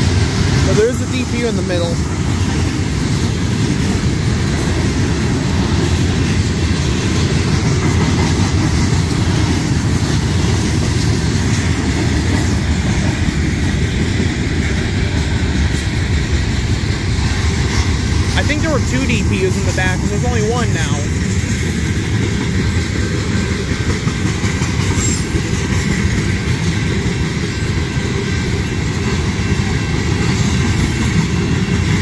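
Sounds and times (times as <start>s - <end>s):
freight train wheels on rail: 0.0s - 32.0s.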